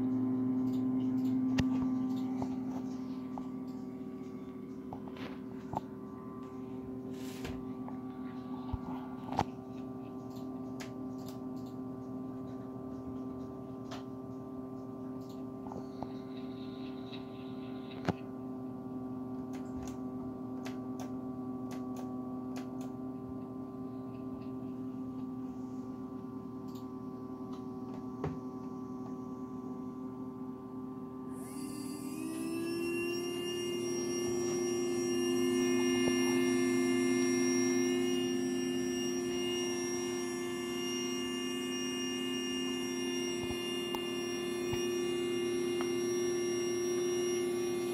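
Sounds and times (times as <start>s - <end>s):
high whine: 0.0s - 14.0s, 22.8s - 47.9s
steady electric hum: 0.0s - 47.9s.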